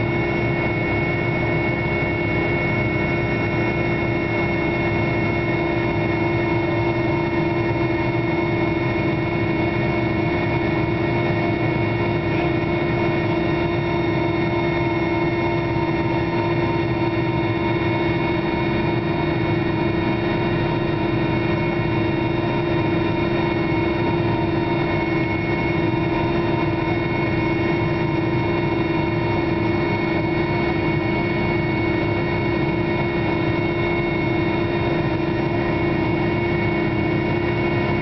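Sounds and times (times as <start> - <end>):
helicopter engines whining: 0.0 - 38.0.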